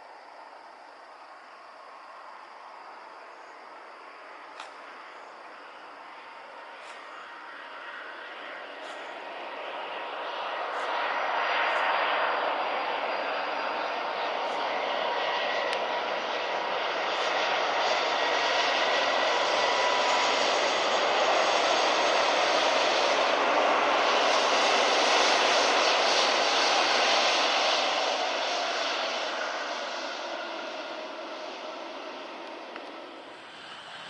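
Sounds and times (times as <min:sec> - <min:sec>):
aircraft engine roar: 0:00.0 - 0:34.0.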